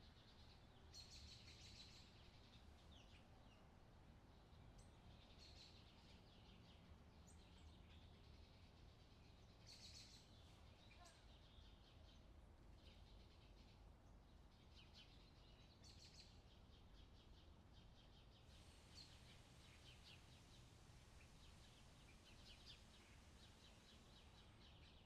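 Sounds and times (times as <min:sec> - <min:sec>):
small birds chirping: 0:04.3 - 0:25.0.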